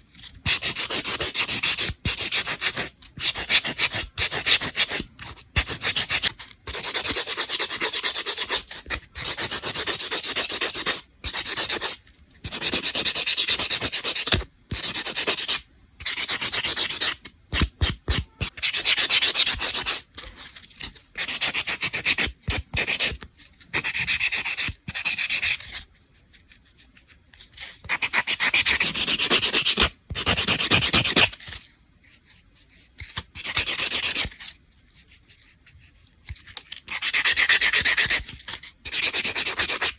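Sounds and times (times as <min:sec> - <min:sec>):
nail file rubbing fingernails: 0:00.2 - 0:20.0, 0:20.8 - 0:31.6, 0:32.3 - 0:39.9.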